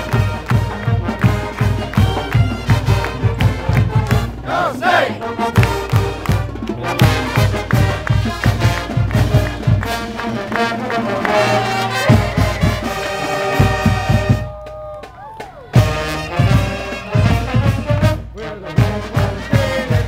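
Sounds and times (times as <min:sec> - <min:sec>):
steady drum beat: 0:00.0 - 0:10.4, 0:11.0 - 0:20.0
marching band playing brass tune: 0:00.0 - 0:20.0.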